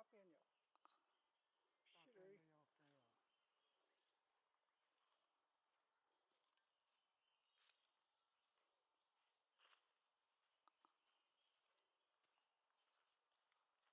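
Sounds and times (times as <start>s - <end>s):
high-pitched insect drone: 0.0s - 13.9s.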